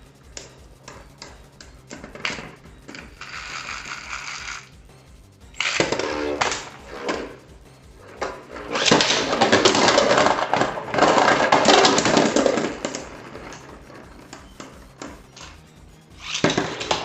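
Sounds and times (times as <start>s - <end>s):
spinning tops clashing and clattering: 0.1s - 4.9s, 5.5s - 17.0s.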